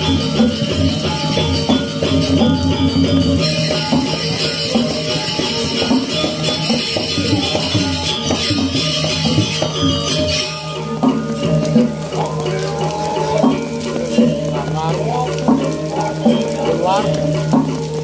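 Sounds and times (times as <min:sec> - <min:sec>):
gamelan playing: 0:00.0 - 0:18.0.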